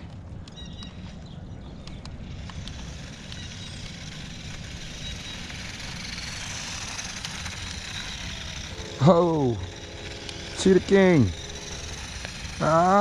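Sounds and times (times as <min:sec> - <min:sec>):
toy car motor whirring: 0:01.8 - 0:13.0.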